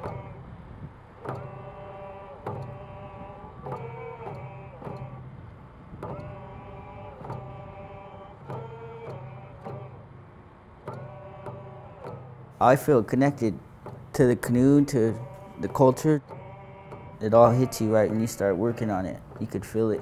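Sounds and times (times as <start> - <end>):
frame drums beating: 0.0 - 20.0
voices singing held notes: 0.0 - 20.0.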